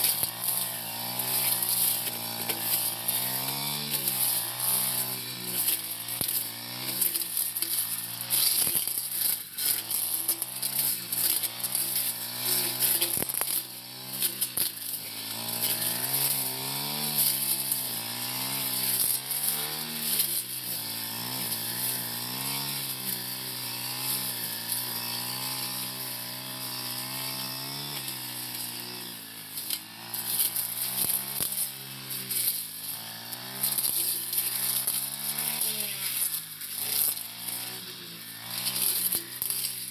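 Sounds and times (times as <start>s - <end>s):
brush cutter engine cutting grass: 0.0s - 39.9s.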